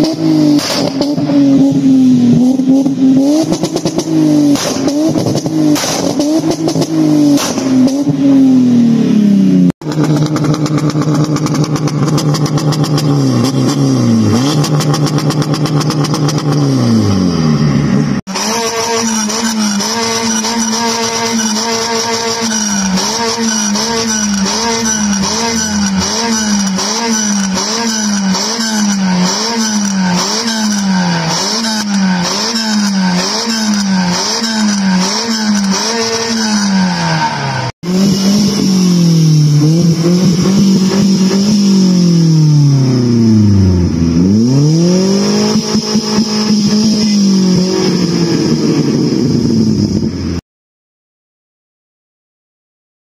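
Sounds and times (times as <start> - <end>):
second car engine revs: 0.0 - 50.1
car engine revving: 0.0 - 50.4.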